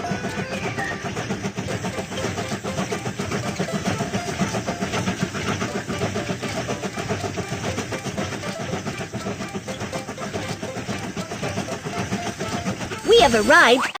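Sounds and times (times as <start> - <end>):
train engine running: 0.0 - 14.0.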